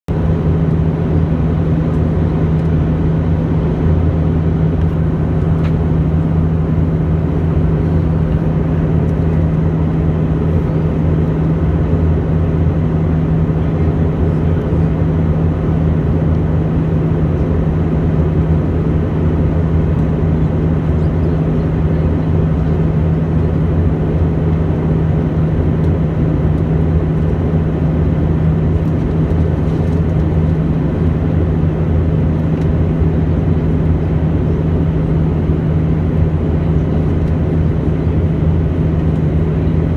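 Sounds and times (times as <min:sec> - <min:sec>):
aircraft cabin engine drone: 0:00.1 - 0:39.9.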